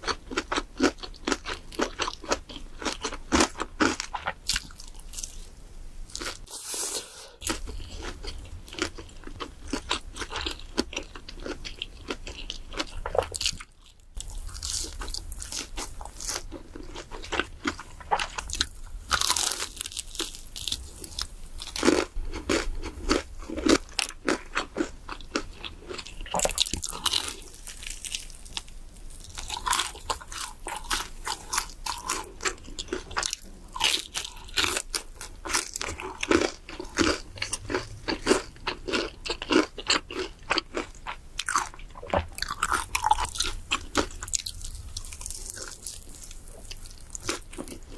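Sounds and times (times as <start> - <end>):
crunching fried chicken: 0.0 - 5.4, 6.1 - 6.5, 7.5 - 47.9.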